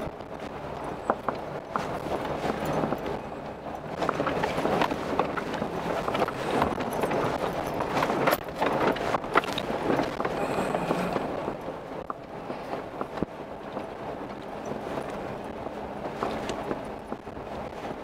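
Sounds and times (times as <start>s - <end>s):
tires crunching over rocks: 0.0s - 18.0s.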